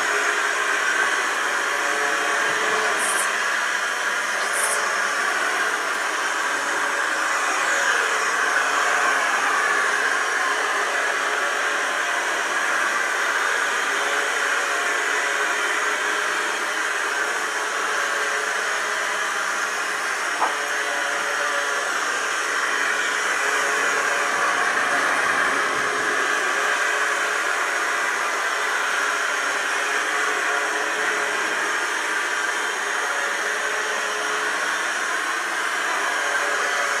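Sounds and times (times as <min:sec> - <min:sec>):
robot vacuum cleaner whirring: 0:00.0 - 0:37.0.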